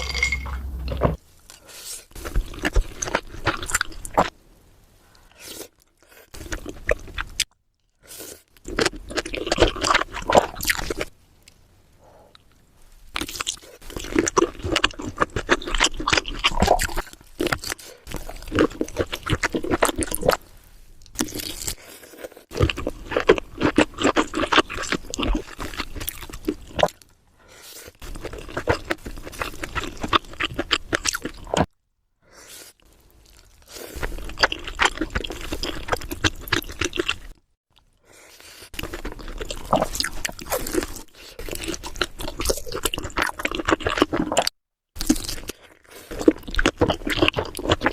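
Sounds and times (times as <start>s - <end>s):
chewing and mouth noises: 0.0s - 4.3s, 5.1s - 11.1s, 12.3s - 31.7s, 32.4s - 47.9s.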